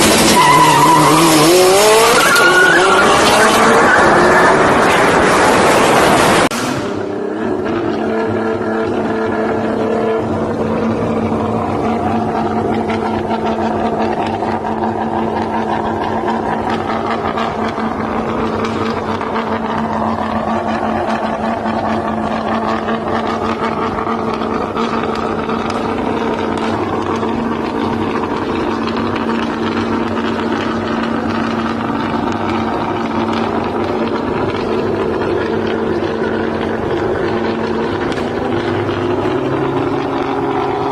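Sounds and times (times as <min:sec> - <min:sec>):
car engine humming steadily: 0:00.0 - 0:40.9.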